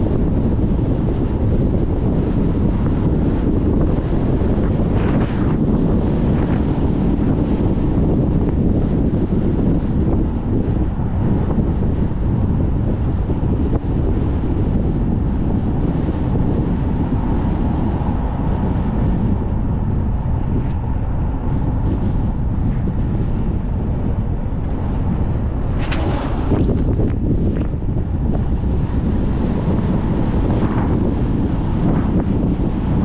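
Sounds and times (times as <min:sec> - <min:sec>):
car road noise: 0:00.0 - 0:33.0
wind buffeting car: 0:00.0 - 0:33.0.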